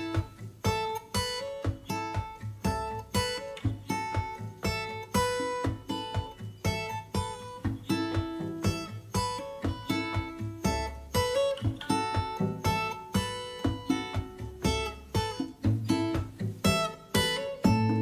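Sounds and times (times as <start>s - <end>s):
acoustic guitar strumming: 0.0s - 18.0s
picked guitar melody notes: 0.0s - 18.0s.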